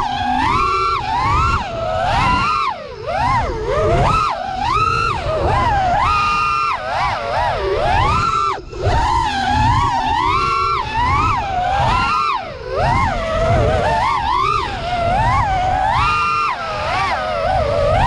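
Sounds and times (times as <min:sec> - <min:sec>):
quadcopter motors whining: 0:00.0 - 0:18.0
wind rumbling on microphone: 0:00.0 - 0:18.0.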